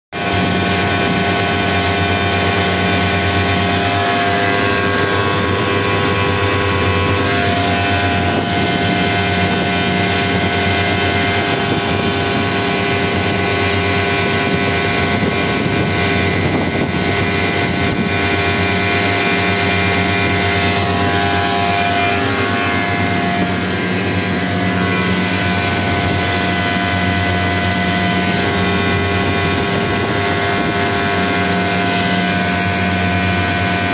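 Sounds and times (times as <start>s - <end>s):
compressor humming with whining tones: 0.2s - 33.9s.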